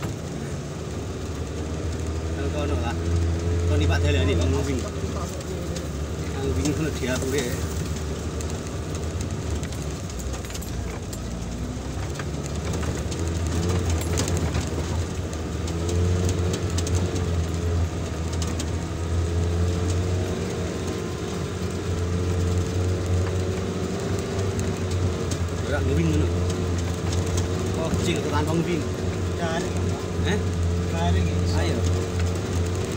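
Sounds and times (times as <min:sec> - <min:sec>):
vehicle engine droning: 0:00.0 - 0:32.9.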